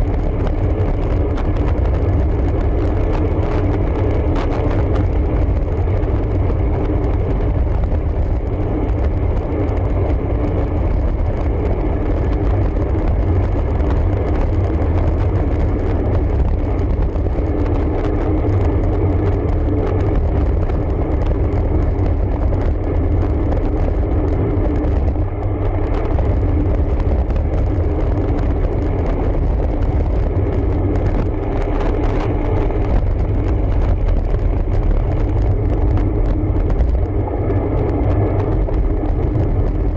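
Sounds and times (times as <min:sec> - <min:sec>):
tyre and road noise: 0:00.0 - 0:39.9
wind buffeting microphone: 0:00.0 - 0:39.9.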